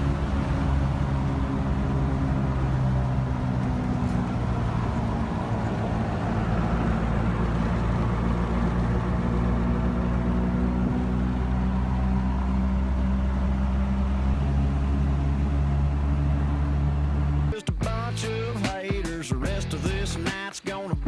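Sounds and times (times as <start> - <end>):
diesel truck engine droning: 0.0 - 18.6.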